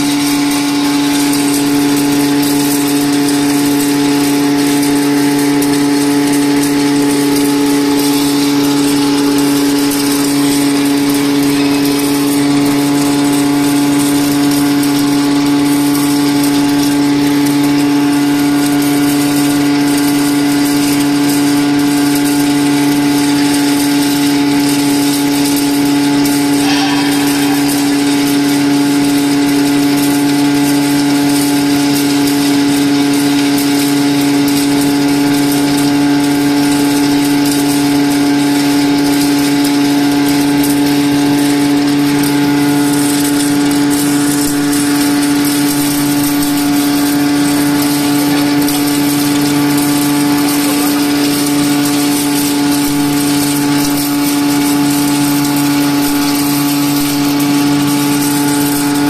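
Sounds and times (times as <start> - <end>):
grinding mill motor hum: 0.0 - 59.0.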